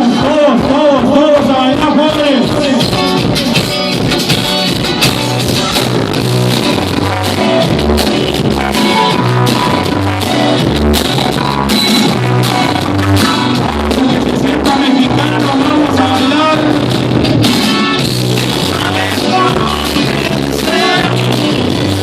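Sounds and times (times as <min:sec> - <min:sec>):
loud dance music with bass line: 0:00.0 - 0:22.0.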